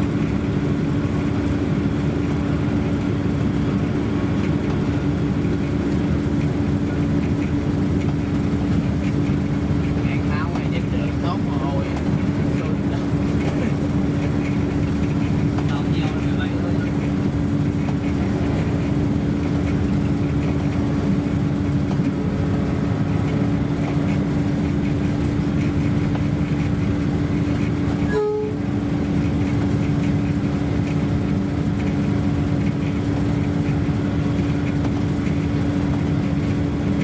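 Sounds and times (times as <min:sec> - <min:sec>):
train rumbling with droning tone: 0:00.0 - 0:37.0.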